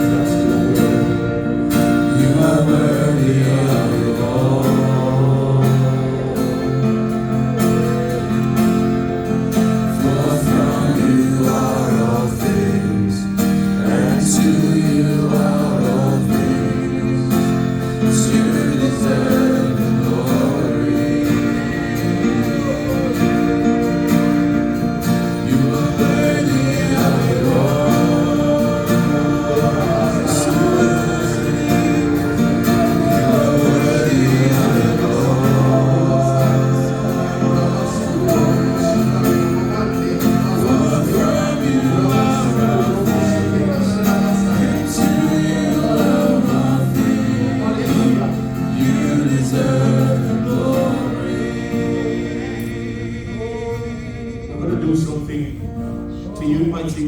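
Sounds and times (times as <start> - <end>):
choir singing gospel song: 0.0 - 56.9
held instrumental chords: 0.0 - 57.0.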